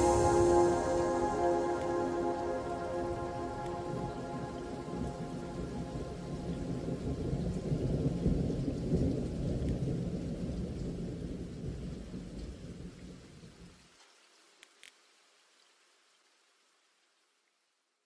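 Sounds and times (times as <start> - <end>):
rain: 0.0 - 18.0.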